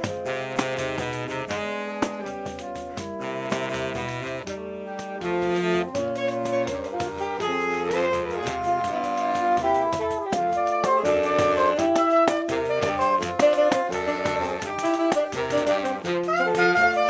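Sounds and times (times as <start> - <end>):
light percussion: 0.0 - 17.0
saxophone quartet playing: 0.0 - 17.0.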